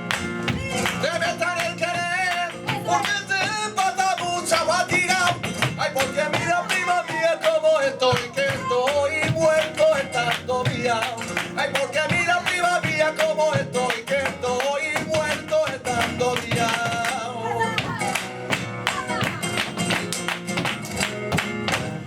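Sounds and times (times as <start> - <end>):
flamenco guitar: 0.0 - 22.0
person singing flamenco: 0.0 - 22.0.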